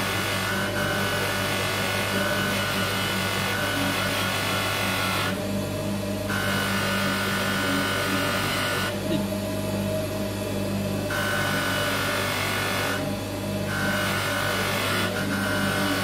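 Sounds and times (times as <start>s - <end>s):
grinding wheel humming: 0.0s - 16.0s.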